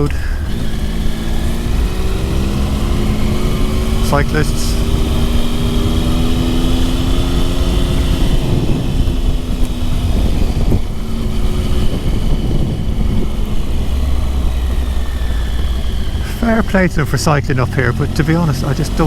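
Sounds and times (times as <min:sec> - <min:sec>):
motorcycle engine running: 0:00.0 - 0:19.0
wind rumble on microphone: 0:00.0 - 0:19.0.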